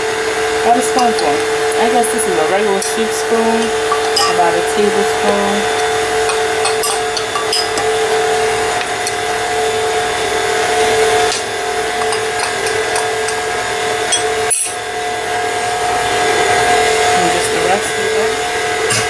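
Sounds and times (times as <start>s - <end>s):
stand mixer motor whine: 0.0s - 18.9s.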